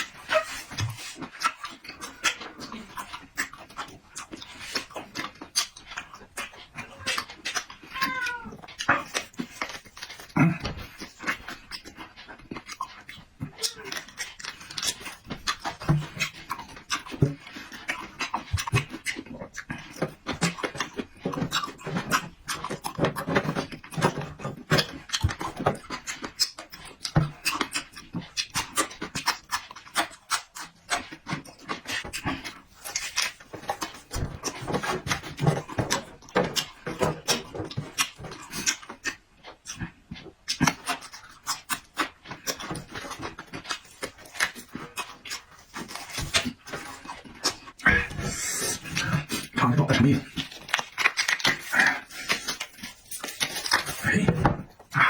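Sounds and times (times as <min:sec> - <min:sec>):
person chewing and smacking: 0:00.0 - 0:55.0.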